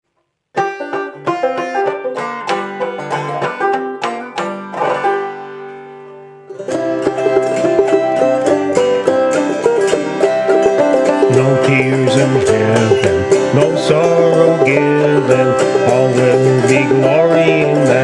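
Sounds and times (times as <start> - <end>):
clawhammer banjo picking: 0.5 - 18.0.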